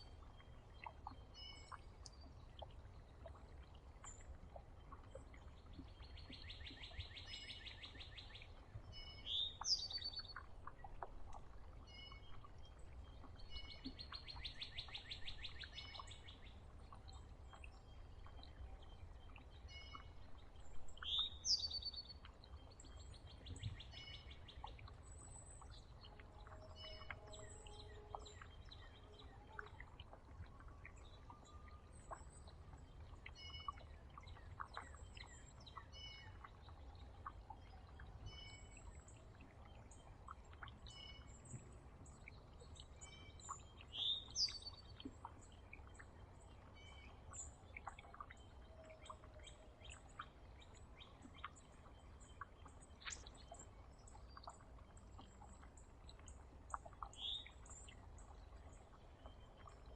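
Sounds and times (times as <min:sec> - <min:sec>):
songbird trill: 0:05.6 - 0:39.2, 0:42.2 - 0:54.6, 0:56.3 - 0:59.9.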